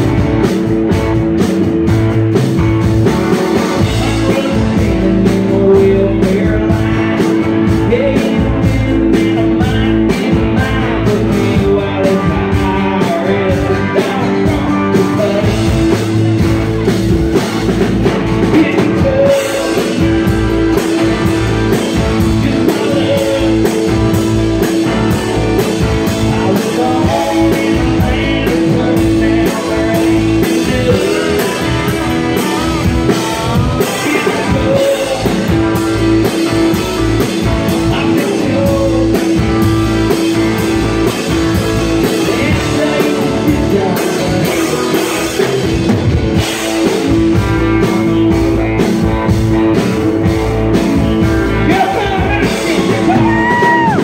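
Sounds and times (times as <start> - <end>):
drum kit: 0.0 - 54.0
man singing: 3.3 - 16.9, 17.6 - 54.0.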